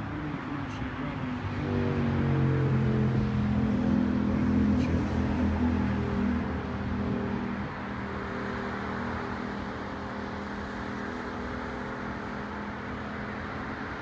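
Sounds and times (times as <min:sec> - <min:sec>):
road traffic rushing: 0:00.0 - 0:14.0.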